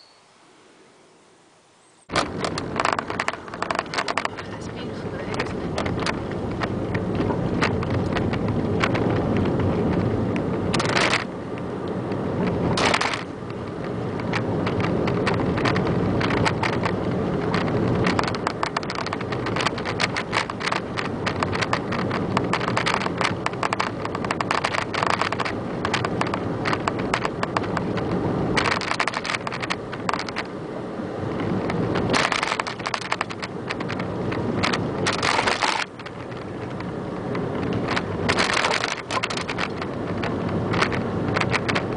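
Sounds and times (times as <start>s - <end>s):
car engine and road rumble: 0.0s - 41.9s
crackling tyre noise: 0.0s - 41.9s.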